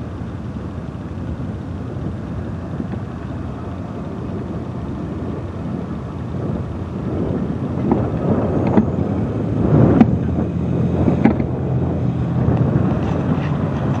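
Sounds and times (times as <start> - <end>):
cars driving over railroad tracks: 0.0 - 14.0
low engine hum: 0.0 - 14.0
wind buffeting microphone: 0.0 - 14.0.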